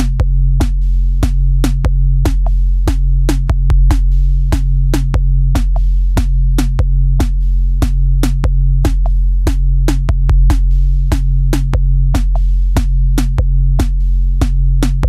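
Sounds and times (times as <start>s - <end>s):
drum-machine beat: 0.0s - 15.0s
low bass notes: 0.0s - 15.0s.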